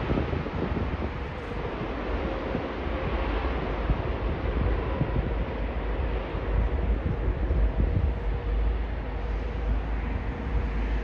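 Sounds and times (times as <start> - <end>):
jet airliner roar: 0.0 - 11.0
wind buffeting microphone: 0.0 - 11.0.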